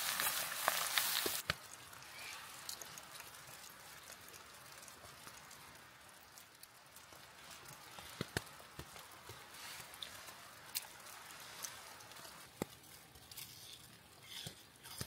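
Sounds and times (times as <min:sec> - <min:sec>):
soft steady hiss: 0:00.0 - 0:15.0.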